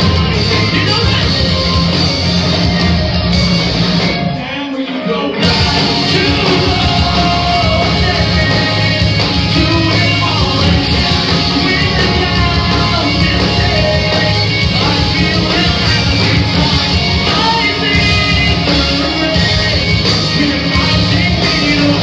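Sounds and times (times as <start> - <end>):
live rock band playing: 0.0 - 22.0
person singing: 4.3 - 22.0.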